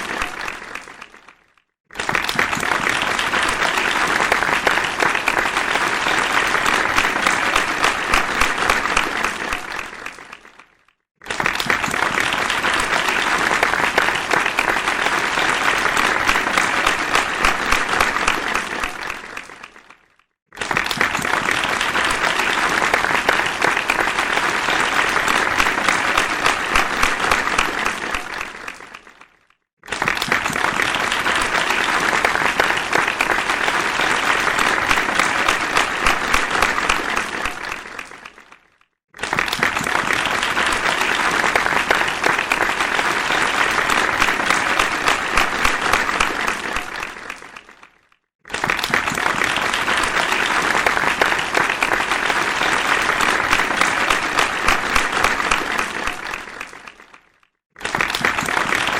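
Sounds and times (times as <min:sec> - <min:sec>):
audience applause: 0:00.0 - 0:58.9.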